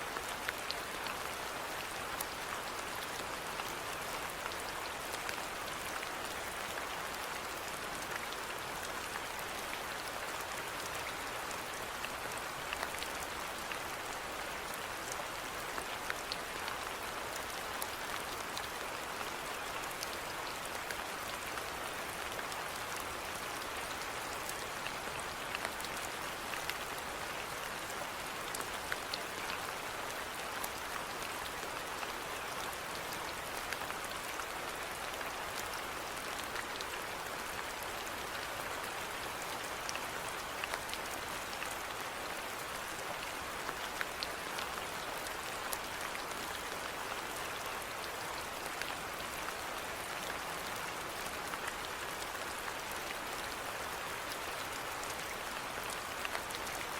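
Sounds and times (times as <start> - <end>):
rain pattering: 0.1 - 56.9.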